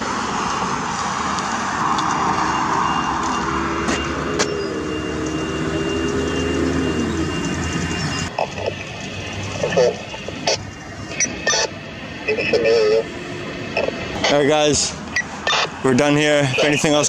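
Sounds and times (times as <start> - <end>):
cars passing: 0.0 - 17.0
vehicle engine hum: 0.0 - 17.0.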